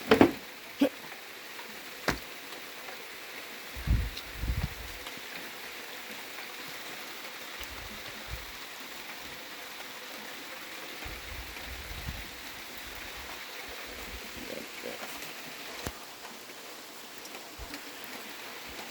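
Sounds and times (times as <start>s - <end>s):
steady rain hiss: 0.0s - 18.9s
faint raindrop ticks: 1.0s - 18.9s.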